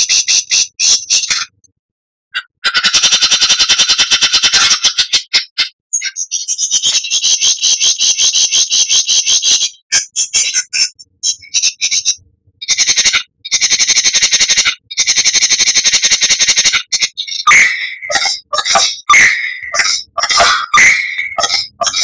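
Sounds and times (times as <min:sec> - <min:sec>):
songbird rapid chattering call: 0:02.7 - 0:22.0.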